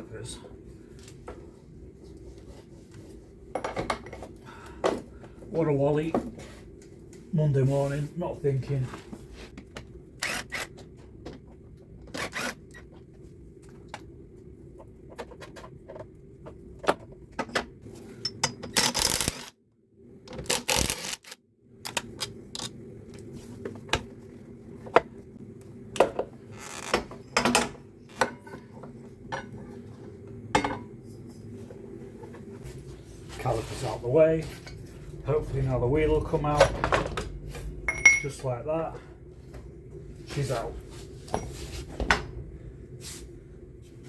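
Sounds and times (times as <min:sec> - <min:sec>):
steady low hum: 0:00.0 - 0:20.6, 0:21.5 - 0:44.0.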